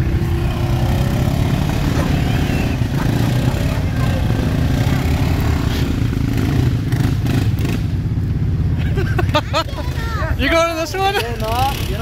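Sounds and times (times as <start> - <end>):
quad engine running under load: 0.0 - 10.4, 11.1 - 12.0.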